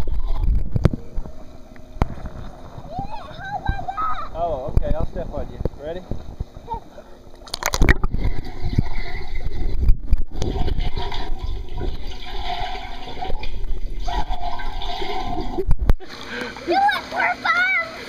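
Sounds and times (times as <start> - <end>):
muffled humming tone: 0.0 - 16.6
muffled underwater rushing and gurgling: 0.0 - 18.0.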